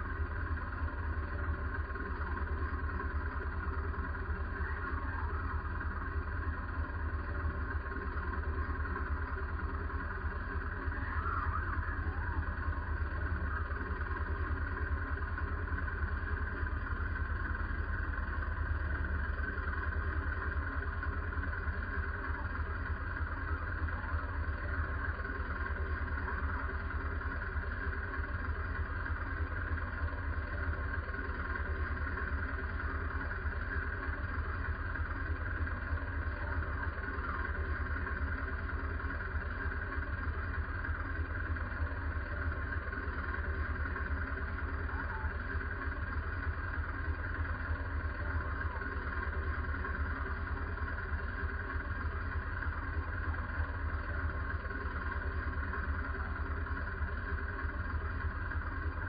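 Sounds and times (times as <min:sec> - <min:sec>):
tank engine idling: 0:00.0 - 0:59.0.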